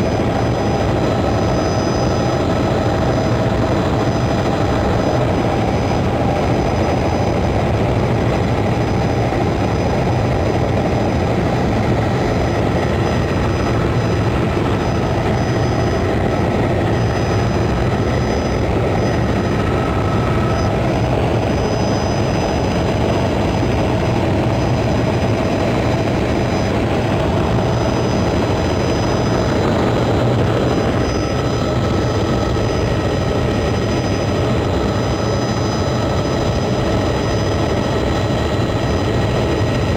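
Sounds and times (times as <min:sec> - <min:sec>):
faint high whine: 0:00.0 - 0:39.9
helicopter rotor and engine noise: 0:00.0 - 0:39.9.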